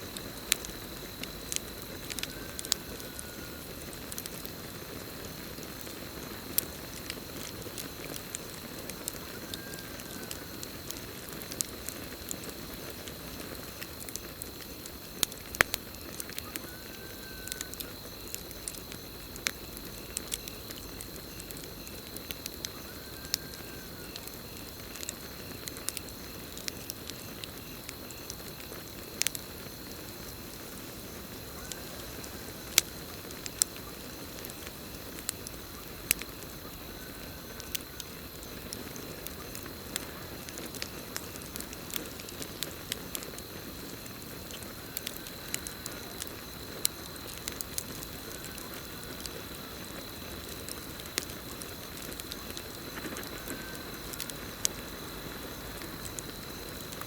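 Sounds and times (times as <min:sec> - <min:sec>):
campfire crackling and popping: 0:00.0 - 0:57.0
crickets trilling: 0:00.0 - 0:57.0.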